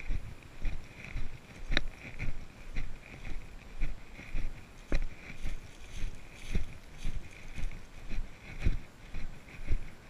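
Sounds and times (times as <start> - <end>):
footsteps on leafy trail: 0.0 - 10.0
sharp crunch underfoot: 0.0 - 10.0.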